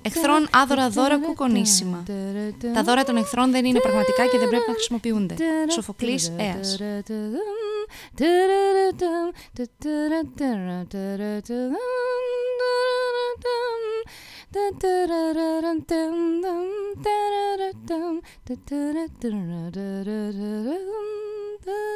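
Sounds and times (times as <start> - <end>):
woman singing wordless melody: 0.0 - 21.9.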